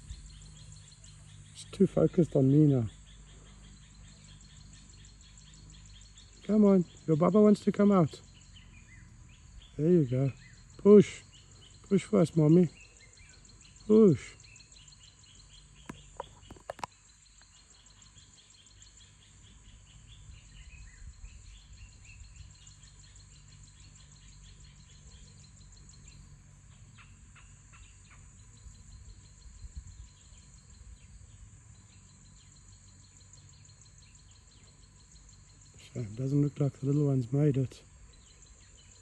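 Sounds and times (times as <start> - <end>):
faint bird chirps: 0.0 - 39.0
insects trilling: 0.0 - 39.0.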